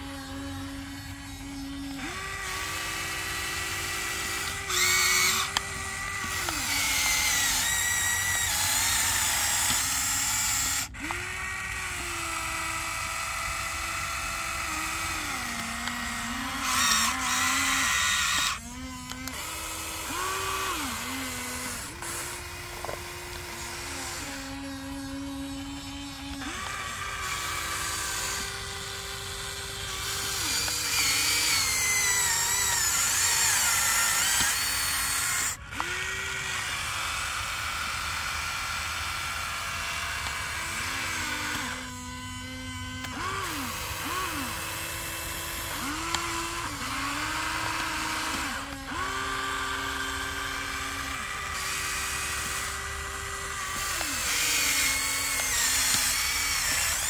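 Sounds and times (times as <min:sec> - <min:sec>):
toy excavator electric motors whining: 0:00.0 - 0:57.0.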